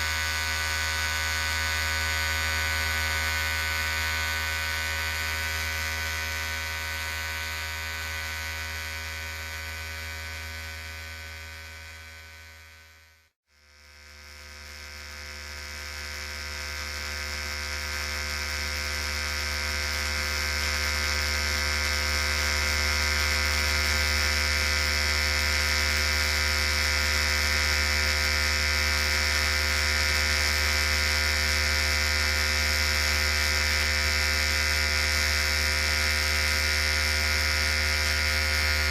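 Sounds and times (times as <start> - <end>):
electric hair clipper buzzing: 0.0 - 38.9.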